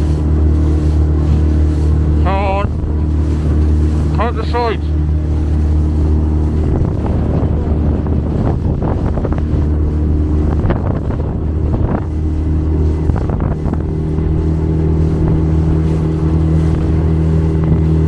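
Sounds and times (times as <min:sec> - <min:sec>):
motorboat engine running: 0:00.0 - 0:18.0
water noise: 0:00.0 - 0:18.0
wind: 0:00.0 - 0:18.0.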